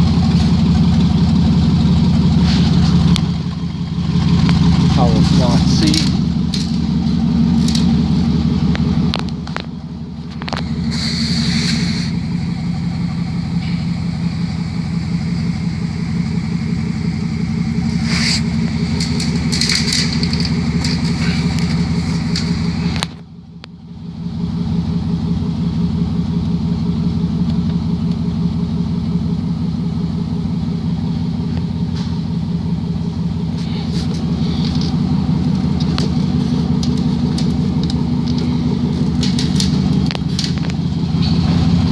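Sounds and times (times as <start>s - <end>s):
engine idling with low drone: 0.0s - 41.9s.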